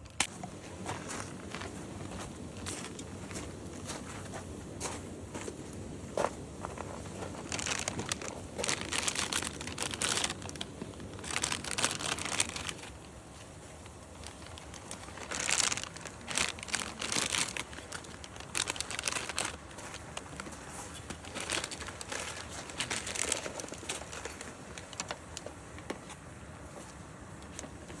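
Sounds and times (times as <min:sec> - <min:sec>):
crinkly material rustling: 0:00.0 - 0:04.4, 0:06.3 - 0:28.0.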